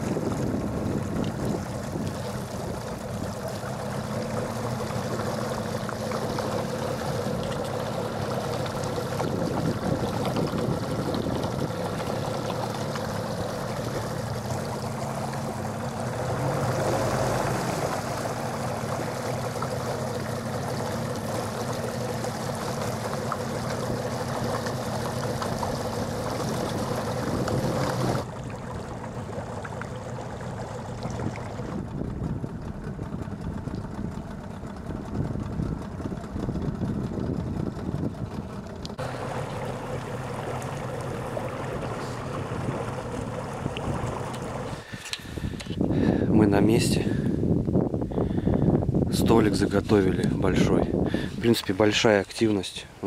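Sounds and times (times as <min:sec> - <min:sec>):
outboard motor running: 0:00.0 - 0:53.0
water washing past hull: 0:00.0 - 0:53.0.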